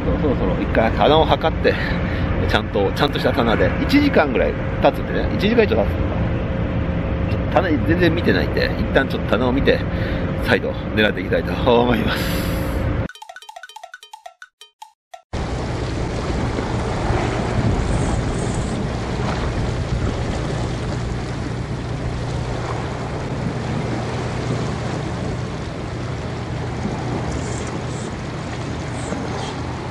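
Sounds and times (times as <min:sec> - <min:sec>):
waves: 0:00.0 - 0:06.4, 0:07.2 - 0:12.5, 0:15.4 - 0:29.9
low droning hum: 0:00.0 - 0:13.1, 0:15.4 - 0:29.9
wind: 0:00.0 - 0:13.1, 0:15.3 - 0:29.9.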